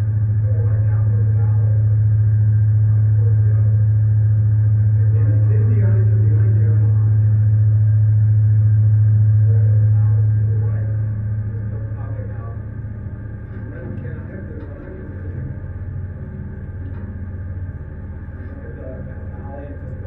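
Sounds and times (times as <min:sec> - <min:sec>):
ship engine droning: 0:00.0 - 0:20.0.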